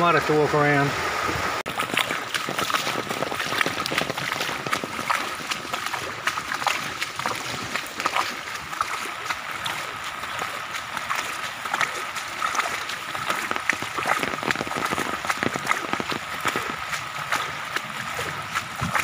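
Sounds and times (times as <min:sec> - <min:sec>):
rain: 0:00.0 - 0:19.0
running water: 0:00.0 - 0:19.0
footsteps splashing in water: 0:01.7 - 0:19.0.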